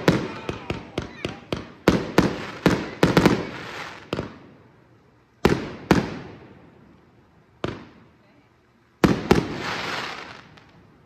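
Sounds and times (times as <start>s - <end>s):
fireworks bangs: 0.0s - 4.8s, 5.4s - 6.8s, 7.6s - 8.3s, 9.0s - 10.9s.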